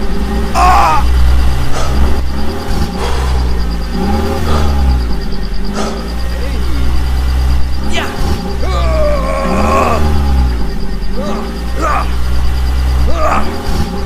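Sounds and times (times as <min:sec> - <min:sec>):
heavy vehicle engine revving: 0:00.0 - 0:14.0.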